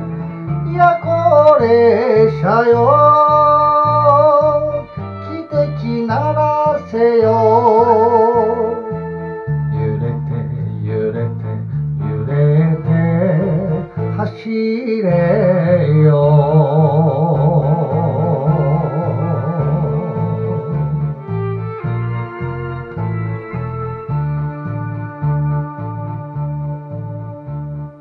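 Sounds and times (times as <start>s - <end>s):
stepping bass line: 0.0s - 28.0s
vibrato melody: 0.0s - 28.0s.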